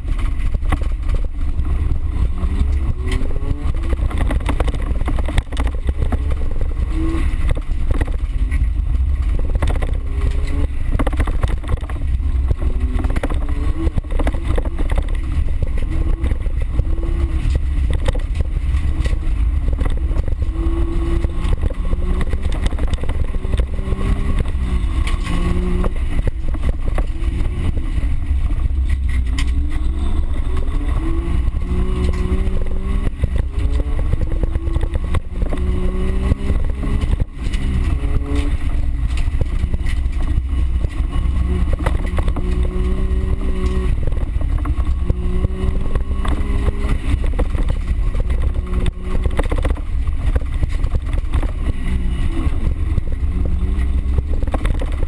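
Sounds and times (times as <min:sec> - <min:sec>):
car engine revving: 0:00.0 - 0:55.0
knocks from rough ground: 0:00.0 - 0:55.0
rumble from rough ground: 0:00.0 - 0:55.0.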